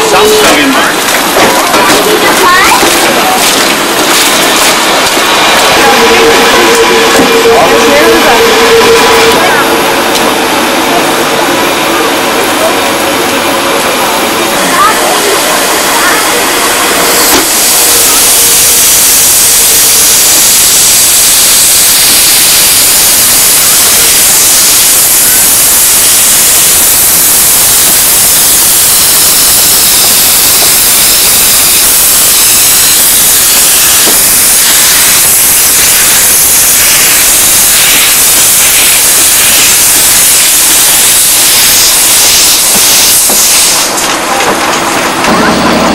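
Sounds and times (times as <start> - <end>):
steam locomotive chuffing beats: 0.0 - 45.9
steam locomotive hissing: 0.0 - 45.9.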